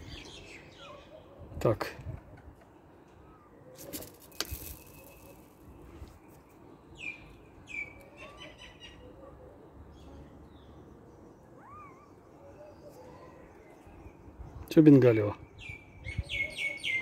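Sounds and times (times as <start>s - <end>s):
birds chirping: 0.0s - 17.0s
faint outdoor background noise: 0.0s - 17.0s.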